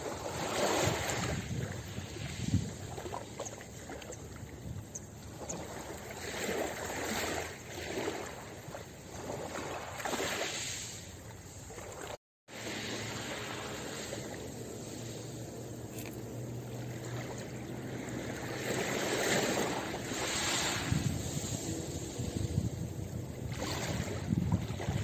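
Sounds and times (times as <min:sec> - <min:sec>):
waves washing over pebbles: 0:00.0 - 0:03.3, 0:05.6 - 0:25.0.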